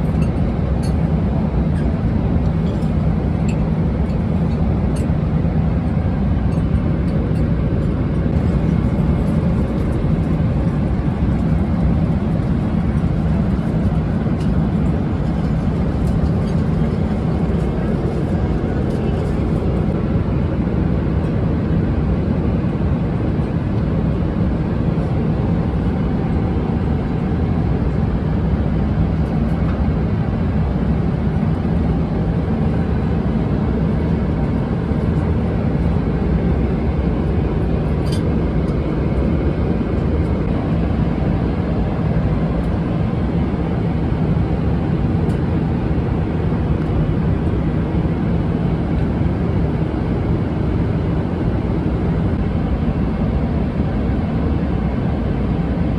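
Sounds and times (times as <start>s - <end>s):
airliner cabin engine rush: 0.0s - 55.9s.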